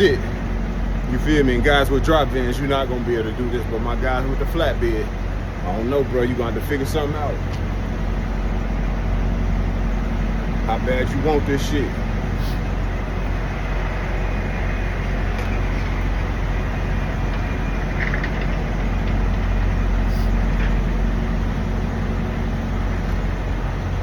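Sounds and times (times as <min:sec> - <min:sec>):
diesel truck engines idling: 0:00.0 - 0:24.0.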